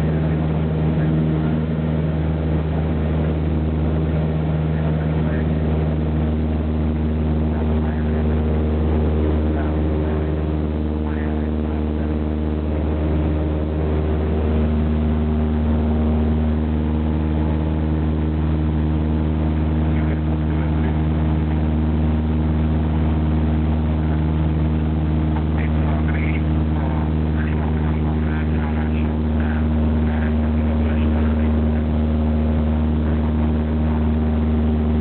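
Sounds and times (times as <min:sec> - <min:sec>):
airplane engine and propeller hum: 0:00.0 - 0:35.0.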